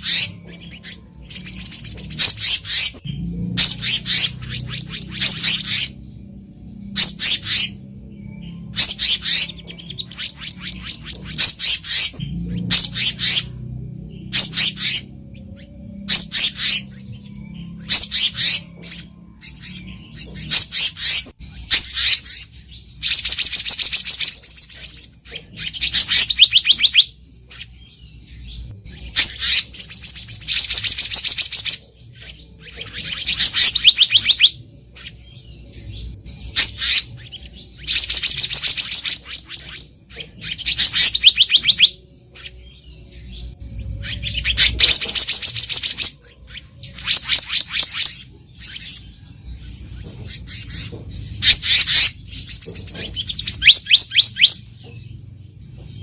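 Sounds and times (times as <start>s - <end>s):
bird singing rapid high notes: 0.0s - 56.0s
bird trills: 0.0s - 56.0s.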